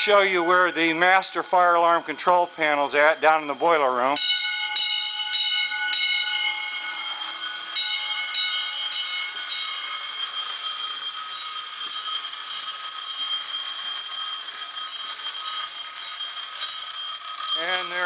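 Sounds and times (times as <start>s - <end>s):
fire alarm bell strikes: 0.0s - 18.0s
steady bell ringing: 0.0s - 18.0s.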